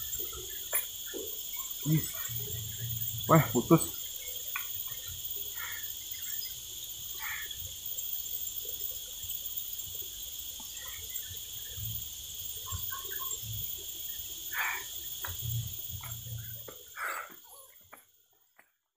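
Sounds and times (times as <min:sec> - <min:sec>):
insects shrilling: 0:00.0 - 0:18.2.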